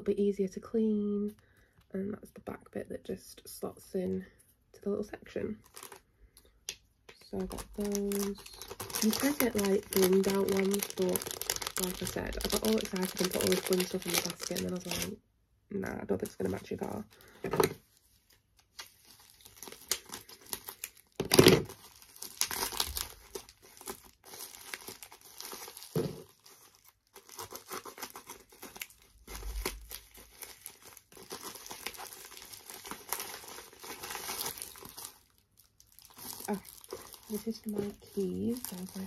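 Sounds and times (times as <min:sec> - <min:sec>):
plastic bag crinkling and tearing: 0:05.6 - 0:06.0, 0:07.2 - 0:15.2, 0:16.1 - 0:39.0.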